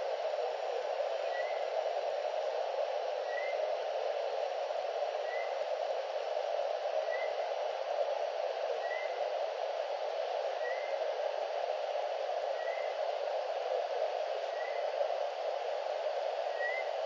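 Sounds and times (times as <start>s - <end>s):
steady microphone hiss: 0.0s - 17.0s.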